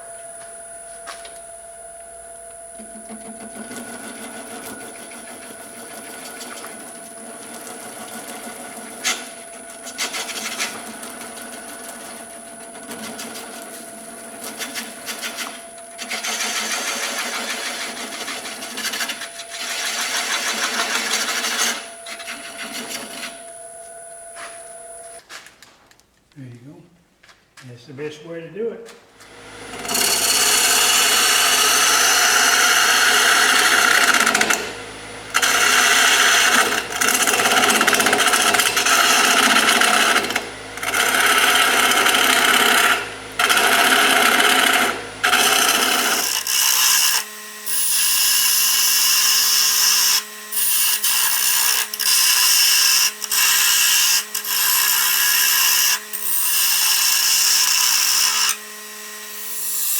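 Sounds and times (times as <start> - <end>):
turning tool scraping wood: 0.0 - 25.2, 29.2 - 59.9
wood lathe humming: 0.0 - 25.2, 29.2 - 59.9.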